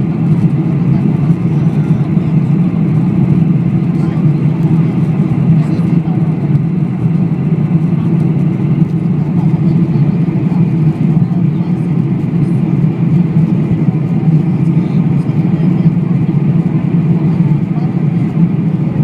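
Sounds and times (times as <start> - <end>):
jet engine and airflow in cabin: 0.0 - 19.0.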